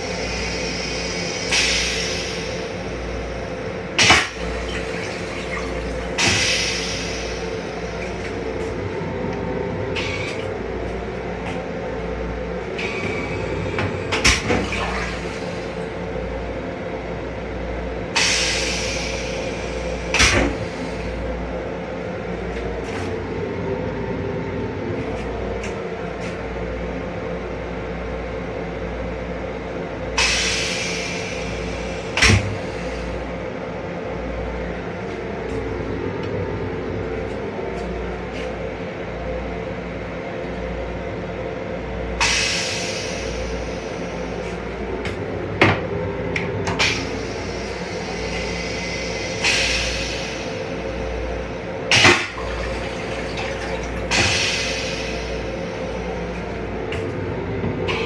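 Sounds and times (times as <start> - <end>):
electric railcar humming: 0.0 - 58.0.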